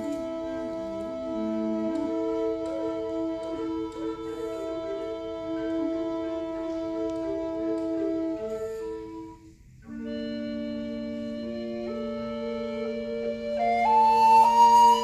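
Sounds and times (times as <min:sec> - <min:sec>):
recorders playing held chords: 0:00.0 - 0:15.0.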